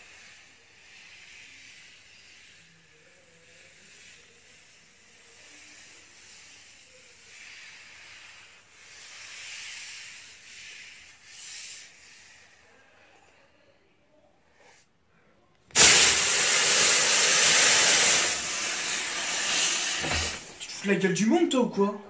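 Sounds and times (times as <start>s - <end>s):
sand swept across floor: 0.0s - 13.0s, 15.8s - 21.0s.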